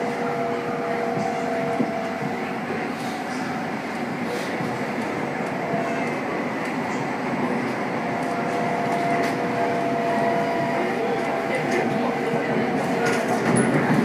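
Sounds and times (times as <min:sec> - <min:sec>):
train rail rumble: 0:00.0 - 0:14.0.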